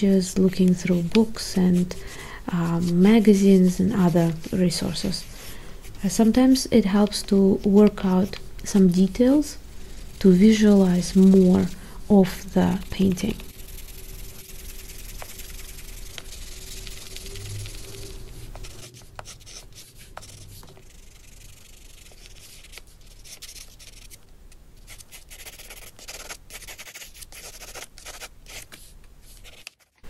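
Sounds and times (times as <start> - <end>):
pencil scratching on paper: 2.6 - 9.3, 10.0 - 24.2, 24.9 - 29.8.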